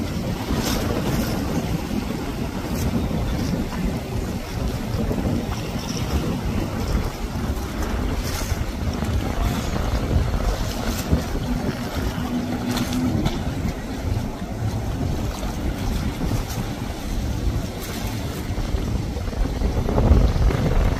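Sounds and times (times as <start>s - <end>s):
jet ski engine: 0.0s - 20.9s
water noise: 0.0s - 20.9s
wind on microphone: 0.0s - 20.9s.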